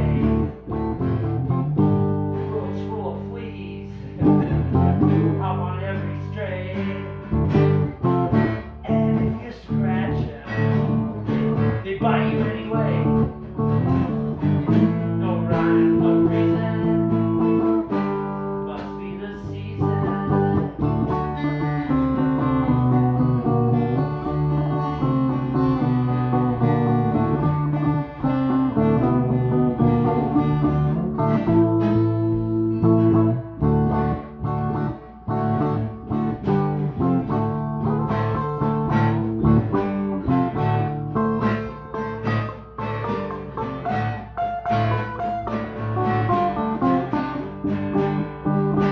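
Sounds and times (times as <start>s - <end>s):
electric guitar playing: 0.0s - 48.9s.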